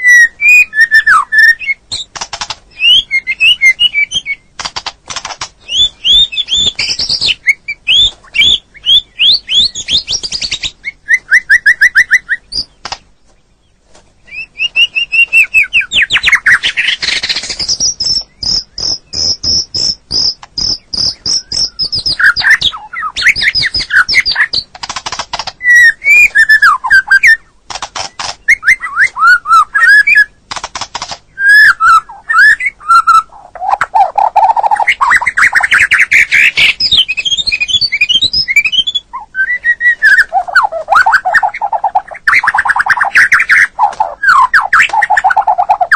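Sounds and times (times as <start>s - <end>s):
songbird singing whistled phrases: 0.0s - 2.1s, 2.7s - 4.5s, 5.6s - 13.0s, 14.2s - 24.7s, 25.6s - 30.4s, 31.3s - 45.9s.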